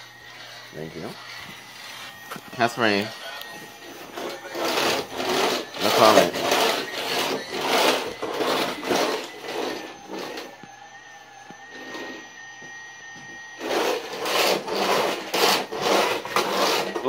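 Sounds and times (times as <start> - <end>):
toy vacuum cleaner rasping: 0.0 - 17.0.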